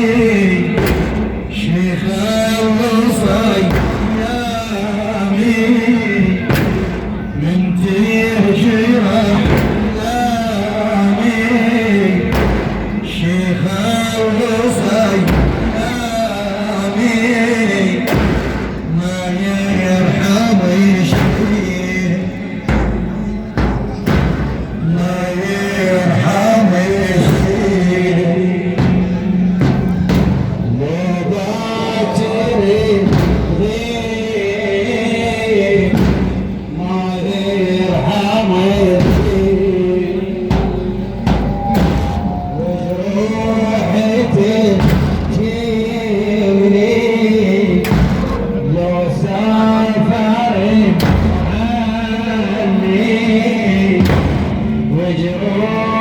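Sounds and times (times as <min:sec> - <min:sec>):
heavy thumps: 0:00.0 - 0:16.4, 0:18.0 - 0:31.1, 0:35.8 - 0:46.9, 0:47.6 - 0:52.8, 0:53.4 - 0:55.3
man chanting religious recitation: 0:00.0 - 0:56.0.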